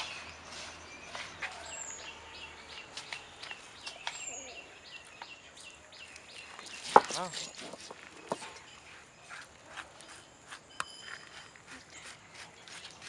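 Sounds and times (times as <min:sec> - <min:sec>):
faint outdoor background noise: 0:00.0 - 0:13.0
small bird chirping: 0:00.0 - 0:13.0.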